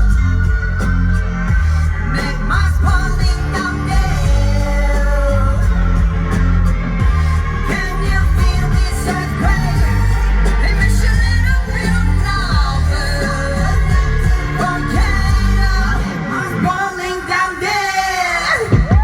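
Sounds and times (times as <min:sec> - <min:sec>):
heavy bass: 0:00.0 - 0:16.8, 0:18.7 - 0:19.0
drums: 0:00.0 - 0:19.0
person singing: 0:00.0 - 0:19.0.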